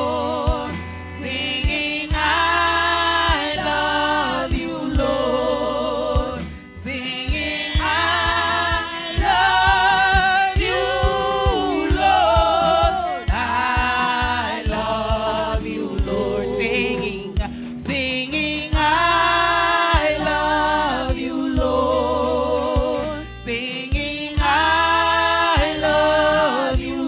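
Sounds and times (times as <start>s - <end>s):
instrumental accompaniment with beat: 0.0s - 27.0s
woman singing into microphone: 0.0s - 27.0s.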